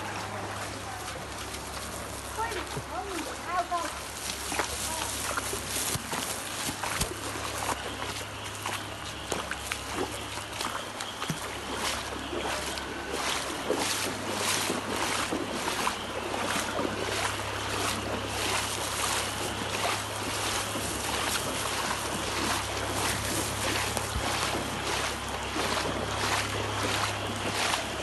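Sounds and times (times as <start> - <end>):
steady low hum: 0.0 - 28.0
water splashing and sloshing: 0.0 - 28.0.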